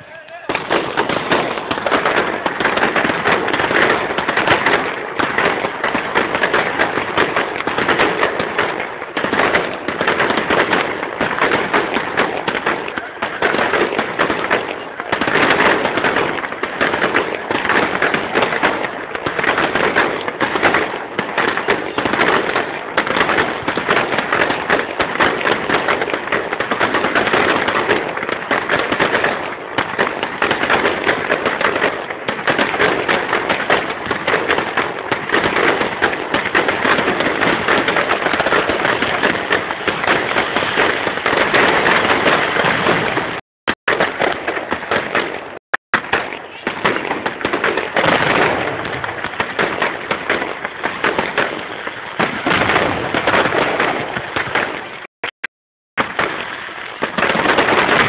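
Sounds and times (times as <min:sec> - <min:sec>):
fireworks bangs and crackles: 0:00.0 - 0:55.1, 0:56.0 - 0:58.0.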